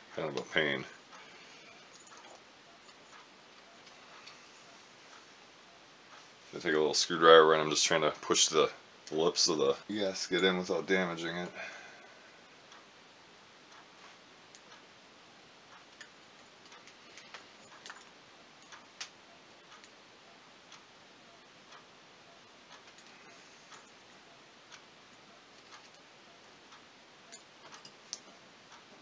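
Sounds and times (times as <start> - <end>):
faint steady ticking: 0.0 - 29.0.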